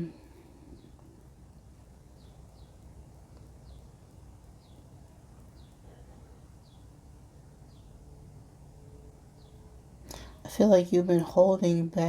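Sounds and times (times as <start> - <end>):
faint bird chirping: 0.0 - 12.0
low room rumble: 0.0 - 12.0.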